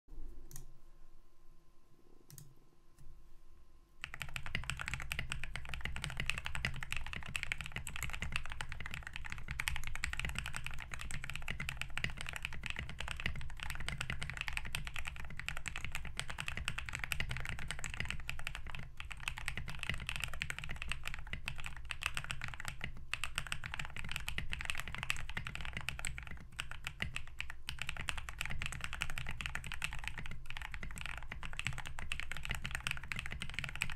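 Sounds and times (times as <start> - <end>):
mechanical keyboard typing: 4.0 - 33.9.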